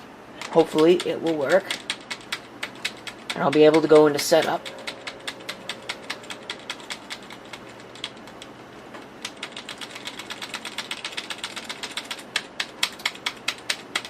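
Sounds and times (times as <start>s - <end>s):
faint steady hum: 0.0s - 14.0s
keyboard key tapping rapidly: 0.4s - 8.5s, 9.2s - 14.0s.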